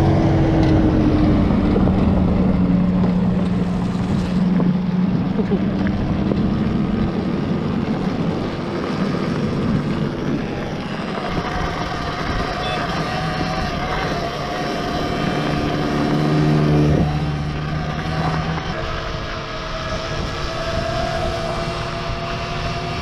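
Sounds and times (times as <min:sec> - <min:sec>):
electric motorcycle motor whine: 0:00.0 - 0:23.0
wind on microphone: 0:00.0 - 0:23.0.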